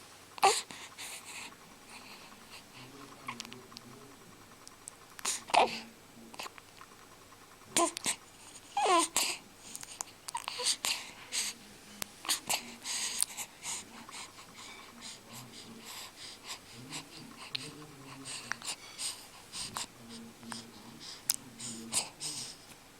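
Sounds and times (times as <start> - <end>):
baby snuffling: 0.4 - 3.8, 5.2 - 6.5, 7.8 - 22.7.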